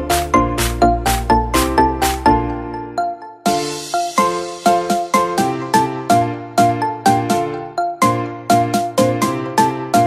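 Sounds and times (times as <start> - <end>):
bright pop music with chimes: 0.0 - 10.0.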